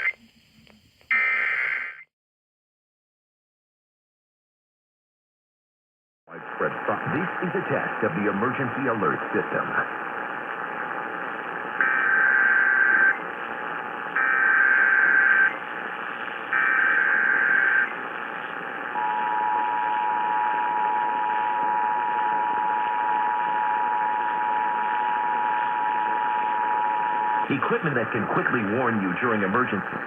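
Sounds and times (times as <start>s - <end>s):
radio hiss: 0.0s - 2.0s, 6.3s - 30.0s.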